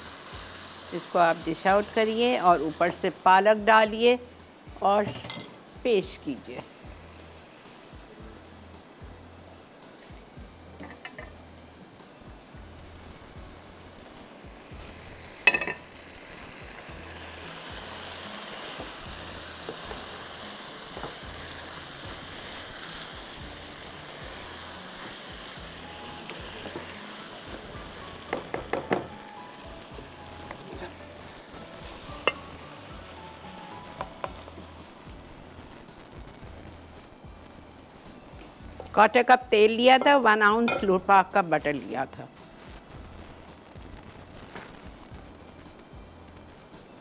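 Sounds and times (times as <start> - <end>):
chicken sizzling in a wok: 0.0 - 41.1, 41.8 - 47.0.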